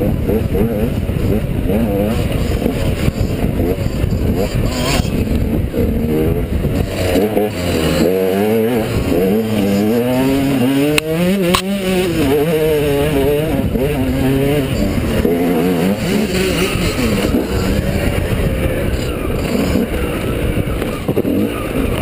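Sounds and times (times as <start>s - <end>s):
dirt bike engine revving: 0.0s - 22.0s
rough rumbling noise: 0.0s - 22.0s.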